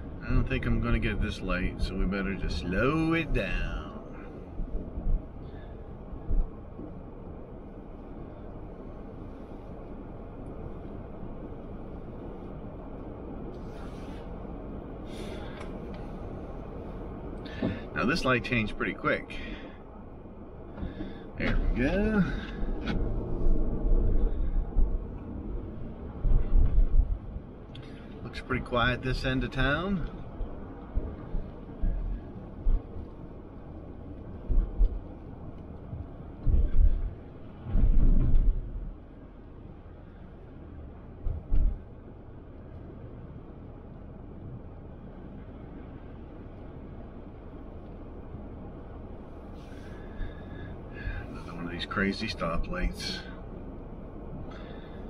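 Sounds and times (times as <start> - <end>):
car idling rumble: 0.0 - 55.0.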